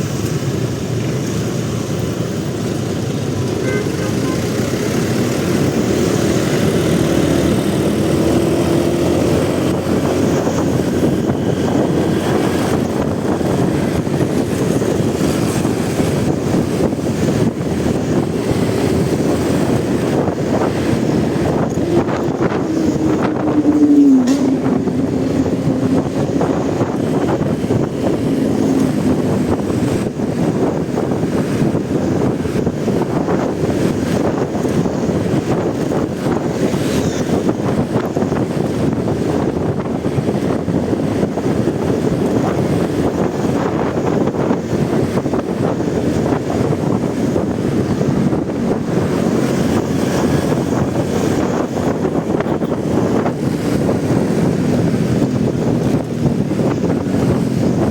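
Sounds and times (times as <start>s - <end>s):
wind and road noise: 0.0s - 57.9s
motorcycle engine running: 2.0s - 57.9s.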